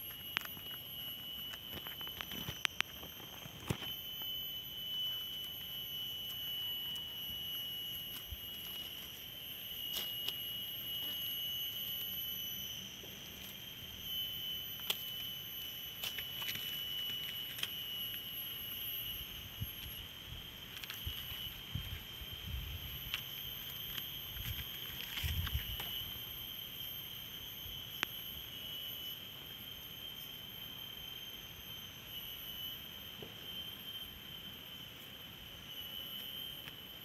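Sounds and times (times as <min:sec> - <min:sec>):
high-pitched whine: 0:00.0 - 0:37.0.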